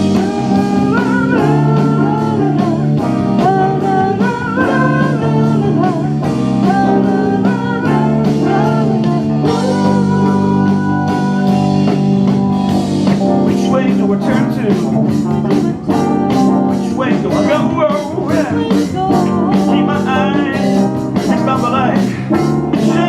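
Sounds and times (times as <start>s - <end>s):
person singing: 0.0s - 12.1s, 13.5s - 23.0s
bass guitar: 0.0s - 23.0s
drum kit: 0.0s - 23.0s
electric guitar: 0.0s - 23.0s.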